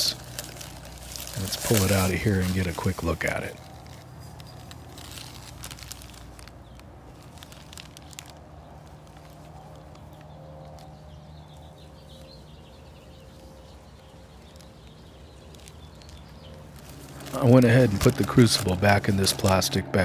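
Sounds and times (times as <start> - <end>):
plastic wrapping crinkling: 0.0 - 19.8.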